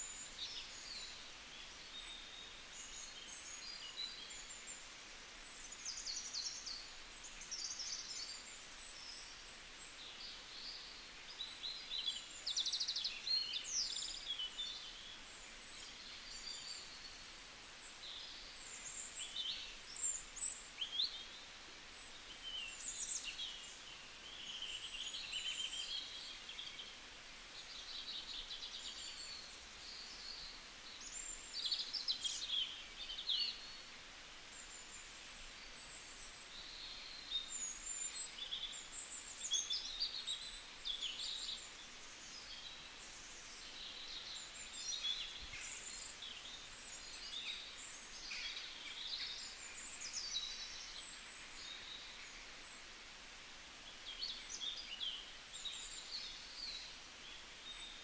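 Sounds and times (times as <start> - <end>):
faint outdoor hiss: 0.0 - 58.0
small birds chirping: 0.0 - 58.0.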